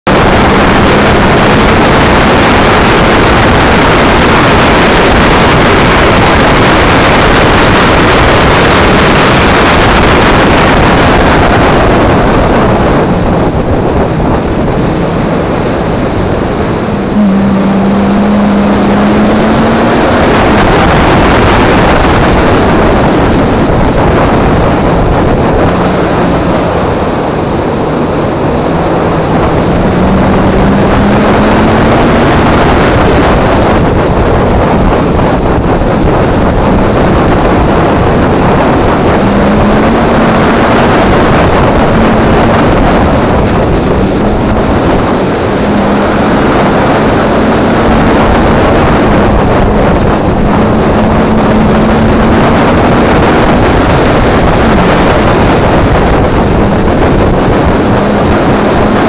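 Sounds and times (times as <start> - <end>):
car engine accelerating: 0.0 - 59.0
wind rush on microphone: 0.0 - 59.0.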